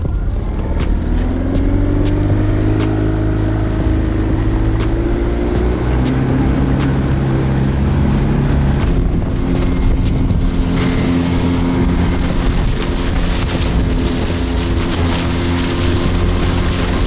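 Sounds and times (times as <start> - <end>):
outboard motor running: 0.0 - 17.0
water hiss: 0.0 - 17.0
wind: 0.0 - 17.0.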